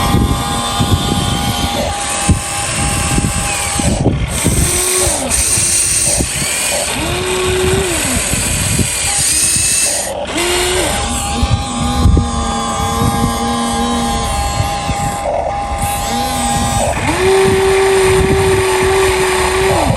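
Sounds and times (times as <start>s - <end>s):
electric motor whine: 0.0s - 19.9s
steady mechanical hiss: 0.0s - 19.9s.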